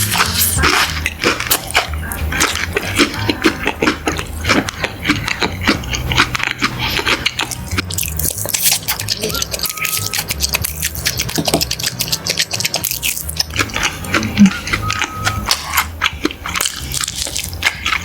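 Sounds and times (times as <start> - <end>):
food crunching while chewed: 0.0 - 18.0
wet mouth clicks: 0.0 - 18.0.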